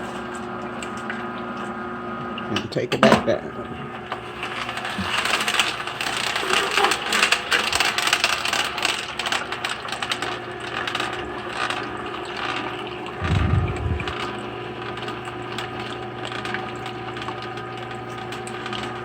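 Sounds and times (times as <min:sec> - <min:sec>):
juicer motor hum: 0:00.0 - 0:02.6, 0:03.5 - 0:19.0.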